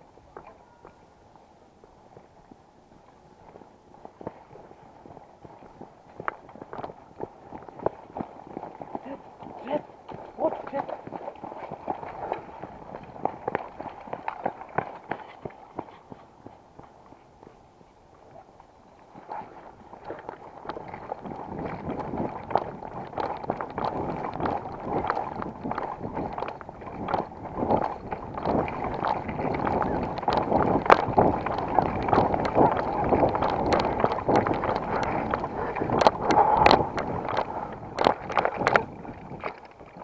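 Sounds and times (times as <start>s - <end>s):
hurried footsteps on dirt path: 0.2s - 40.0s.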